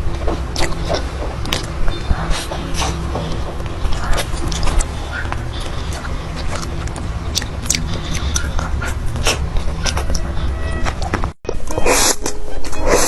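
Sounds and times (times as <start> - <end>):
steady low hum: 0.0 - 13.0
mouth clicks and chewing: 0.2 - 13.0.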